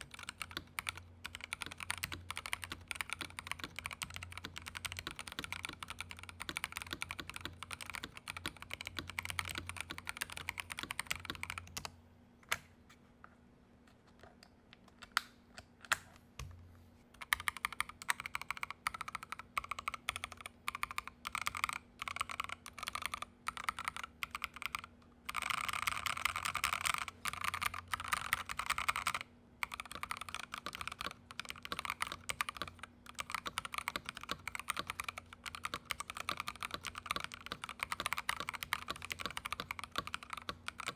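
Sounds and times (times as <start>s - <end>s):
mechanical keyboard typing: 0.0s - 11.9s, 17.2s - 40.9s.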